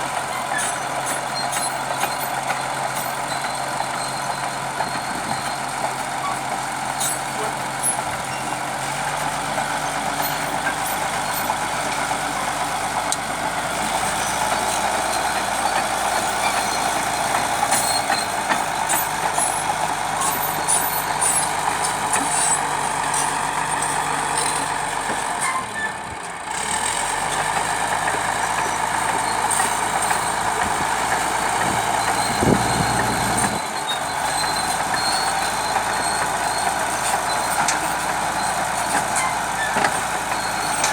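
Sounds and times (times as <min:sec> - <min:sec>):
bulldozer diesel engine drone: 0:00.0 - 0:40.9.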